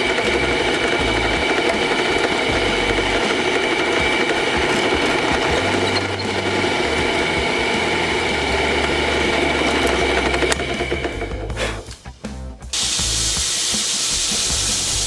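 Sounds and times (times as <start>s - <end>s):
electric power tool whining: 0.0s - 11.6s, 12.8s - 15.0s.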